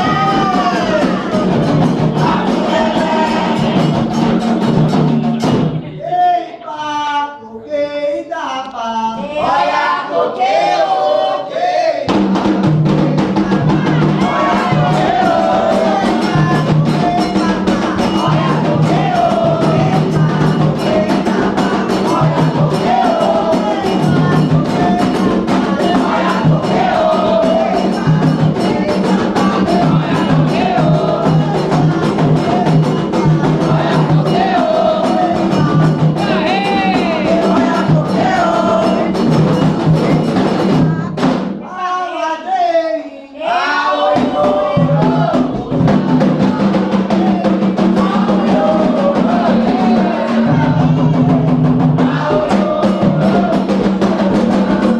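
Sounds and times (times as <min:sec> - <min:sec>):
hand drums rhythm: 0:00.0 - 0:05.9, 0:12.1 - 0:41.6, 0:44.0 - 0:54.9
people singing: 0:00.0 - 0:54.9.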